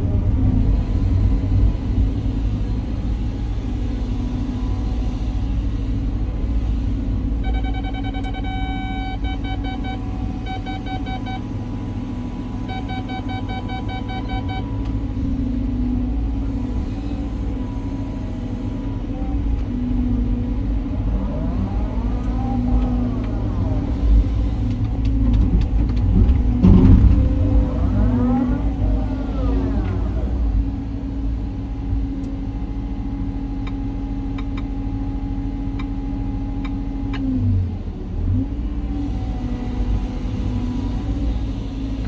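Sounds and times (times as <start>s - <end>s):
excavator diesel engine rumbling: 0.0s - 42.0s.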